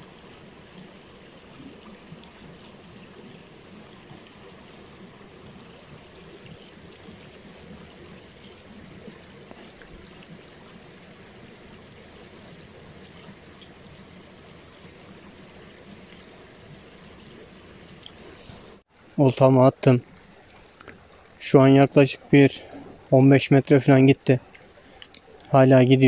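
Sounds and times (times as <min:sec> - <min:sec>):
creek rippling over stones: 0:00.0 - 0:26.0.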